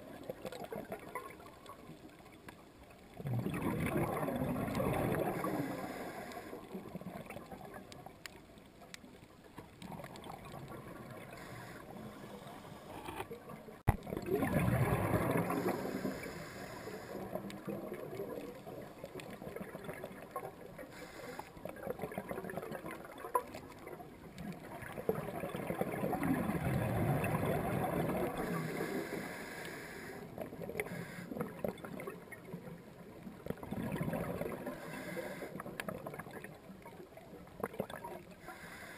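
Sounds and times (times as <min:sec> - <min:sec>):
underwater breathing bubbles: 0:03.2 - 0:07.9, 0:09.8 - 0:32.7, 0:33.4 - 0:36.6, 0:37.6 - 0:38.9.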